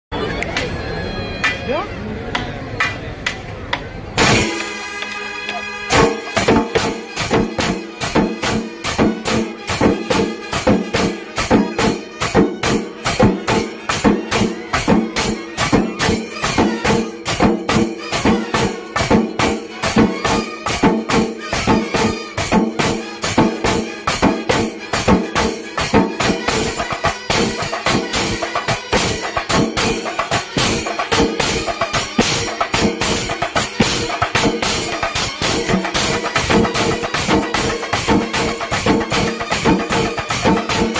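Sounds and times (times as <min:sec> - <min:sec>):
jingling cymbals: 0:04.2 - 0:40.9
fast drum beat: 0:05.9 - 0:40.9.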